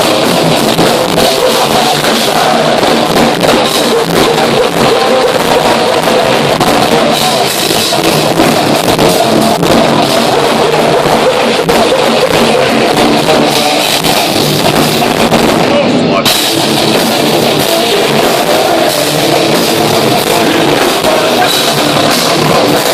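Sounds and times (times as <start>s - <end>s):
distorted electric guitars: 0.0s - 22.9s
pounding drum kit: 0.0s - 22.9s.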